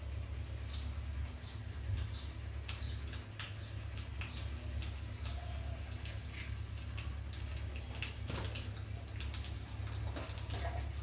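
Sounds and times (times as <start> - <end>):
hot oil crackling and spitting: 0.0 - 11.0
steady low hum: 0.0 - 11.0.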